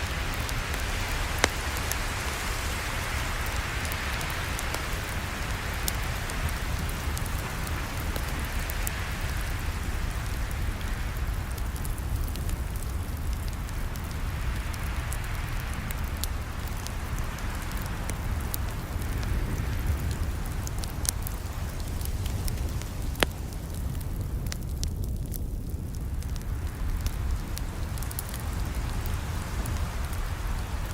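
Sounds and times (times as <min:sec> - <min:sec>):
campfire rumble and hiss: 0:00.0 - 0:30.9
fire crackles and pops: 0:00.0 - 0:30.9.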